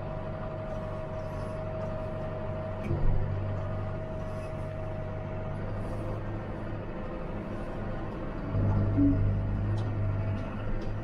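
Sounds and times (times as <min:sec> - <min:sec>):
constant whine: 0:00.0 - 0:11.0
tractor engine running: 0:00.0 - 0:11.0.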